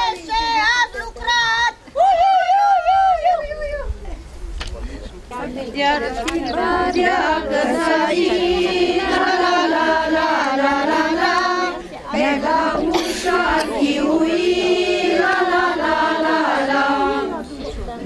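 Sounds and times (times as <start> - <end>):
women singing unaccompanied: 0.0 - 3.9, 5.6 - 18.0.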